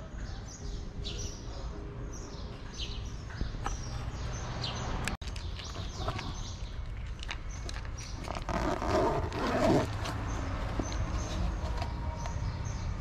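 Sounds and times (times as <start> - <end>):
low street hum: 0.0 - 13.0
small birds chirping: 0.0 - 13.0.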